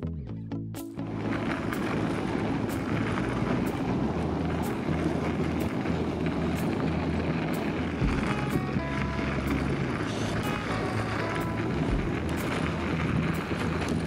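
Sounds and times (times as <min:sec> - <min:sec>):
bicycle tyres rolling on snow: 0:00.9 - 0:14.0
wind rushing on microphone: 0:01.0 - 0:14.0.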